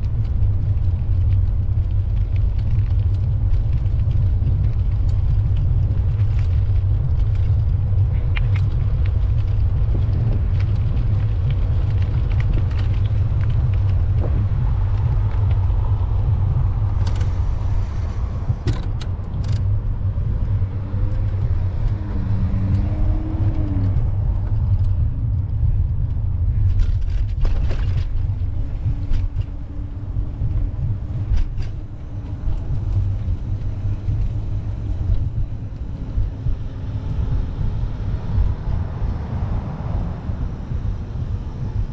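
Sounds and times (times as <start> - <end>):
street ambience rumble: 0.0 - 41.9.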